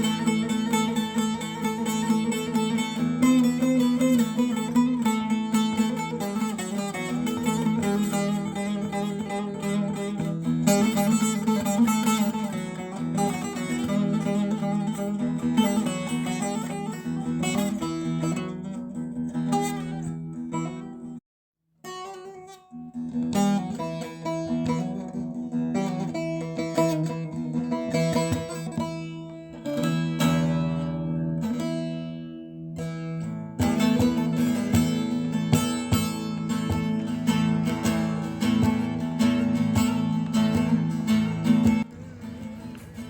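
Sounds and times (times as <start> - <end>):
plucked string music: 0.0 - 21.2, 21.8 - 43.0.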